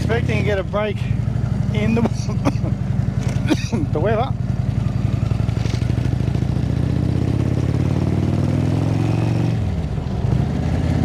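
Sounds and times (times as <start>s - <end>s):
motorcycle exhaust running: 0.0s - 11.0s.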